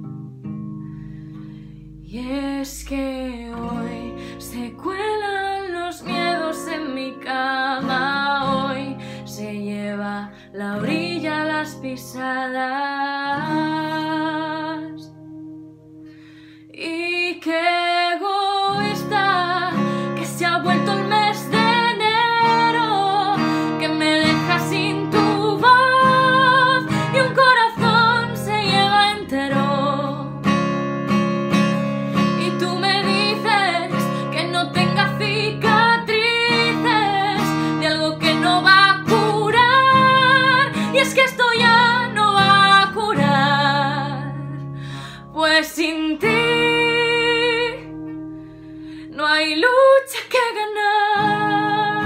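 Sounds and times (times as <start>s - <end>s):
strummed acoustic guitar: 0.0s - 12.2s, 18.6s - 49.2s, 51.1s - 52.0s
woman singing: 2.0s - 15.2s, 16.6s - 30.6s, 31.8s - 48.2s, 49.0s - 52.0s.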